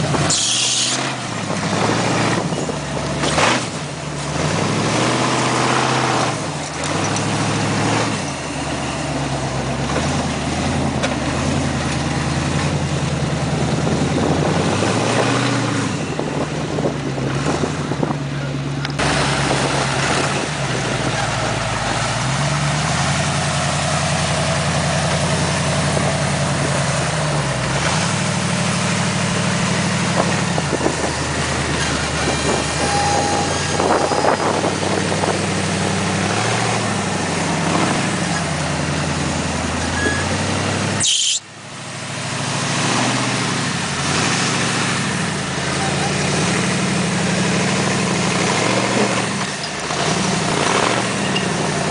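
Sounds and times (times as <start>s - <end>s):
buggy engine revving: 0.0s - 51.9s.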